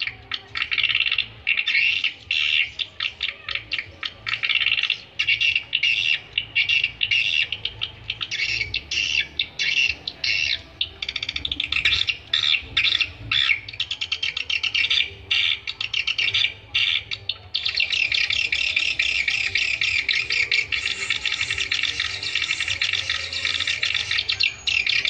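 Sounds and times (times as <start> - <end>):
swiftlets twittering: 0.0 - 25.0.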